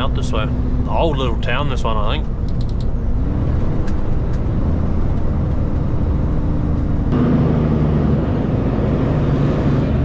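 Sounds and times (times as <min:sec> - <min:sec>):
truck diesel engine drone: 0:00.0 - 0:10.0.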